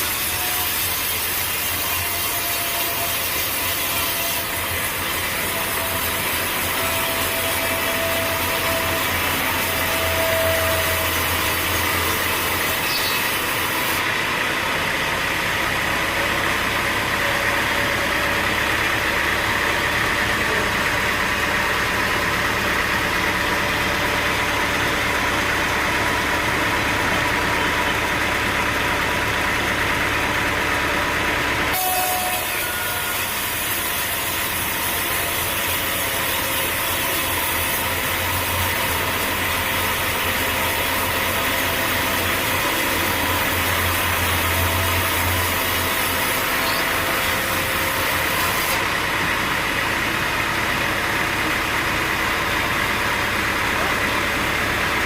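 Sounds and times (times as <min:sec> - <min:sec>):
saw blade cutting log: 0:00.0 - 0:29.8, 0:31.6 - 0:49.6
sawmill machinery drone: 0:00.0 - 0:55.0.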